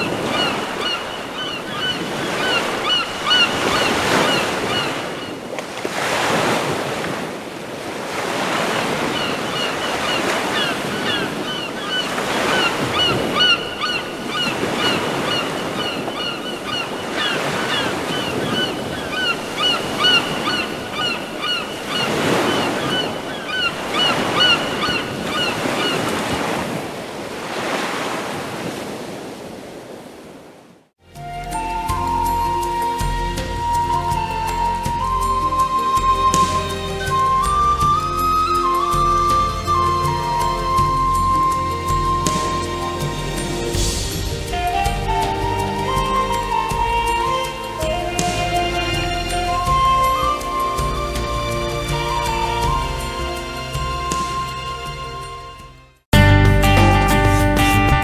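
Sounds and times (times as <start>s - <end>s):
birds chirping: 0.0s - 5.6s, 8.6s - 26.4s, 31.1s - 55.9s
surf breaking: 0.0s - 29.3s, 31.2s - 55.5s.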